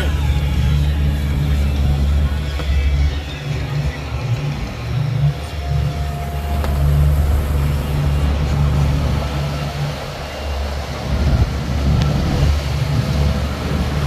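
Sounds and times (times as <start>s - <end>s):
boat wake rushing: 0.0s - 14.0s
outboard motors droning: 0.0s - 14.0s
wind: 0.0s - 14.0s.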